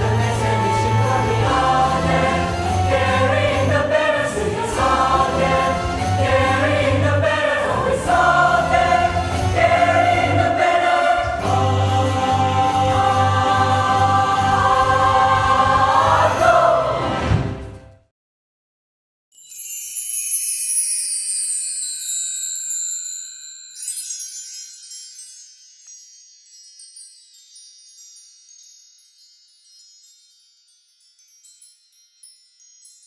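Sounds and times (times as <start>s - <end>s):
high metallic chimes: 0.0s - 16.5s, 19.3s - 33.0s.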